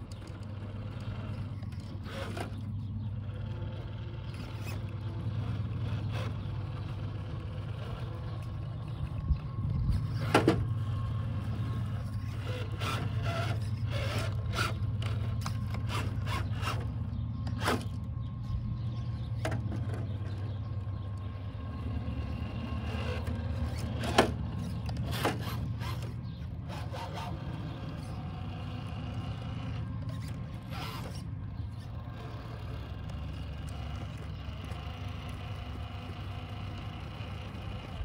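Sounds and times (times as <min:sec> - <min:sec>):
toy car electric motor hum: 0:00.0 - 0:38.0.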